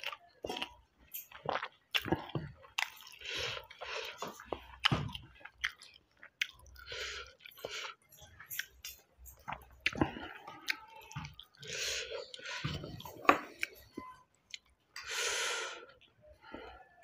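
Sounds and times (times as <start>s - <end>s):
man chewing rice: 0.0s - 16.7s.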